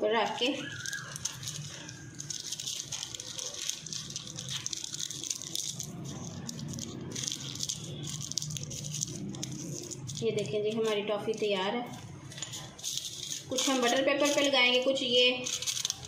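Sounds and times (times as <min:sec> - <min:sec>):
parchment paper crinkling: 0:00.3 - 0:16.0.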